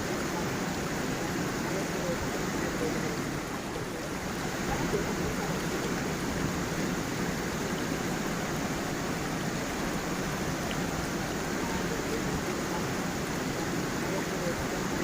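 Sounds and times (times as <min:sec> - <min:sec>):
stream running over stones: 0:00.0 - 0:15.0.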